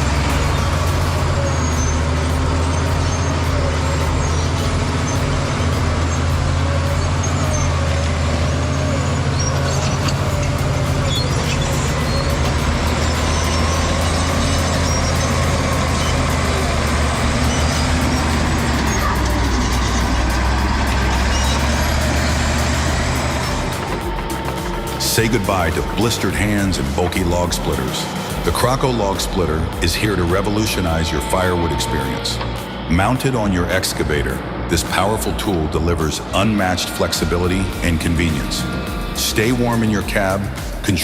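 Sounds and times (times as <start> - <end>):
heavy diesel engine droning: 0.0 - 41.0.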